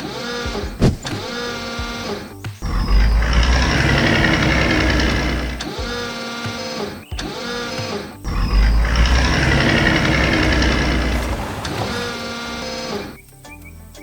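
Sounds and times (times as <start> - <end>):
engine rumble with mechanical grinding: 0.0 - 13.2
motor whine: 0.8 - 13.1.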